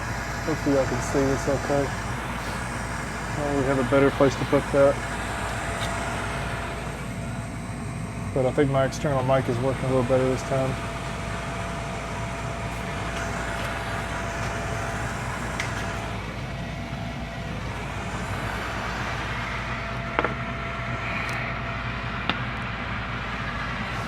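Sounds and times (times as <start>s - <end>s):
furnace inducer motor running: 0.0s - 24.0s.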